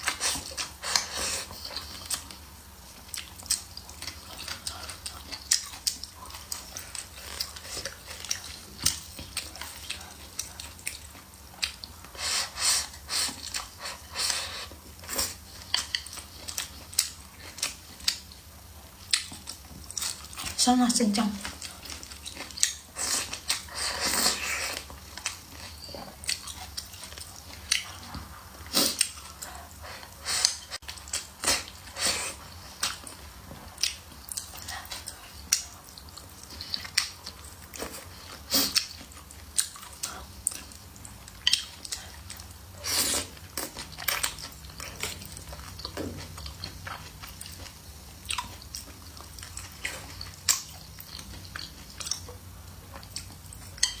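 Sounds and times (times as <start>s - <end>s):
person chewing crunchy food: 0.0s - 20.6s, 21.4s - 54.0s.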